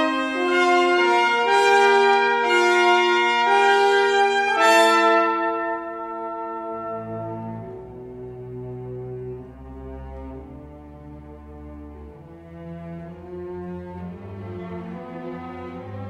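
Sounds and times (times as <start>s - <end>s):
orchestra brass chords: 0.0s - 16.0s.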